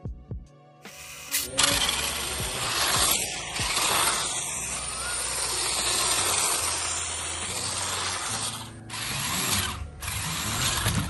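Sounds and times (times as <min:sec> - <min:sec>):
toy car motors hissing: 0:00.9 - 0:11.0.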